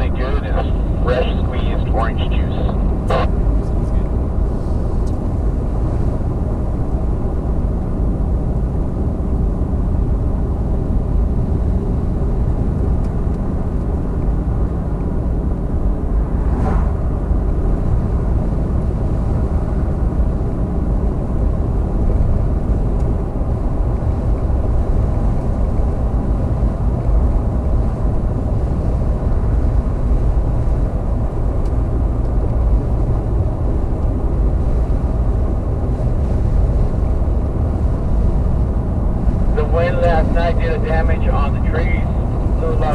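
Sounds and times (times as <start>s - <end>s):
vehicle engine and tyre rumble: 0.0s - 42.9s.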